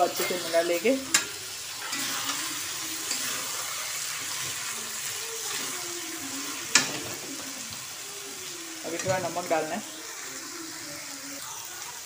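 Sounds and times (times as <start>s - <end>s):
spatula stirring in pan: 0.0s - 11.1s
vegetables sizzling in hot oil: 0.0s - 12.0s.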